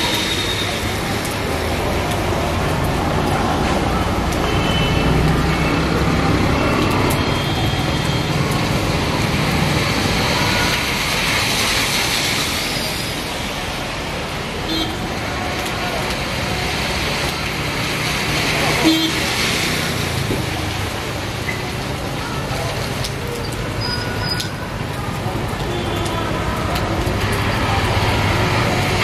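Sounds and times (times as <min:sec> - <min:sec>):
heavy rain on a street: 0:00.0 - 0:29.0
traffic on wet road: 0:00.0 - 0:29.0.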